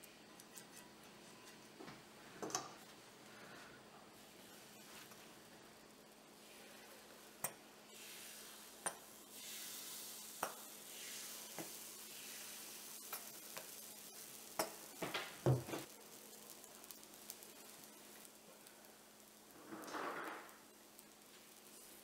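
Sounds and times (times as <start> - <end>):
batter sizzling in pan: 2.2 - 22.0.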